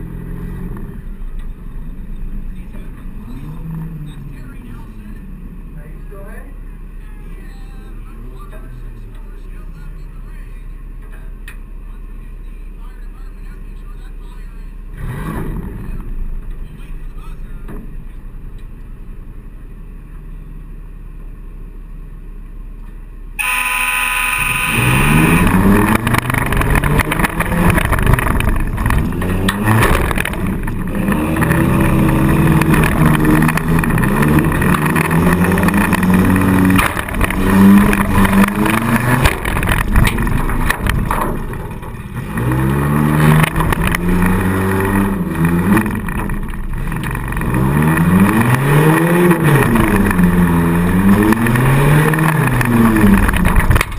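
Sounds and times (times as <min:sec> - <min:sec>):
car engine revving: 0:00.0 - 0:10.4, 0:13.2 - 0:19.3, 0:23.4 - 0:53.9.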